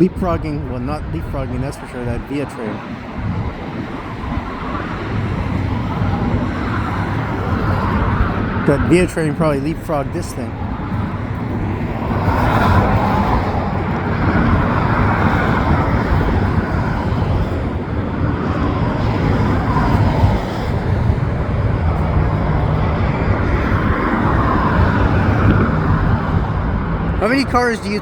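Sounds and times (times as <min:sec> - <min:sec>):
cars passing: 0:00.0 - 0:28.0
traffic rumble: 0:00.0 - 0:28.0.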